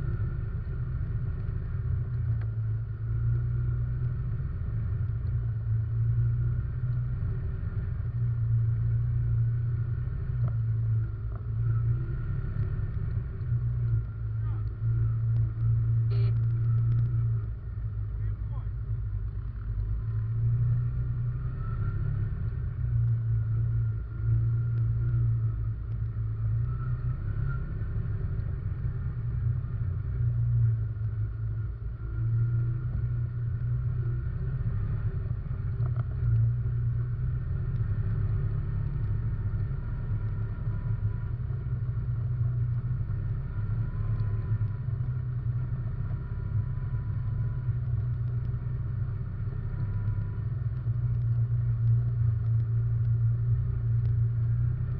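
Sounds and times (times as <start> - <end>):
quad bike engine droning: 0.0 - 54.9.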